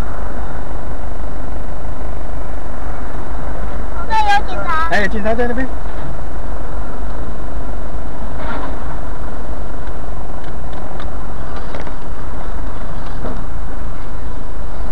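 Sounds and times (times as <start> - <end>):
truck driving low rumble: 0.0 - 14.9.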